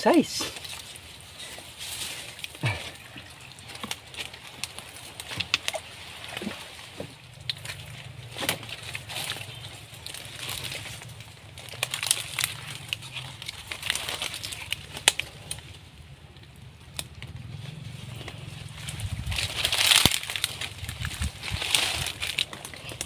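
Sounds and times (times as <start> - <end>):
leaf litter rustling and crackling: 0.0 - 23.0
twigs snapping: 0.5 - 23.0.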